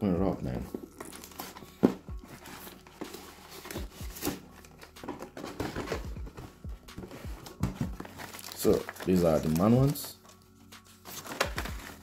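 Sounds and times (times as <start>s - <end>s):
packaging rustling and crinkling: 0.7s - 12.0s.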